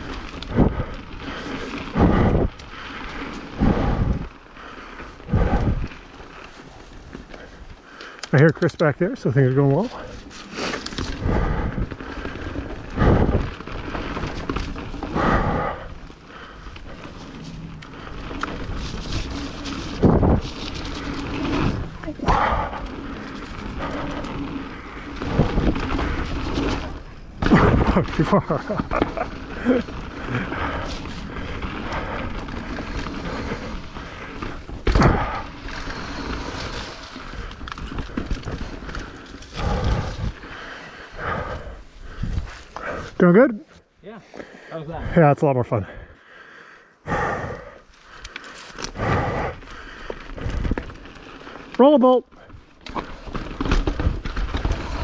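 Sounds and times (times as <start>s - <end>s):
bike rattling: 0.0s - 43.2s, 47.2s - 55.0s
bike tyres rumbling on dirt: 0.0s - 43.2s, 47.0s - 55.0s.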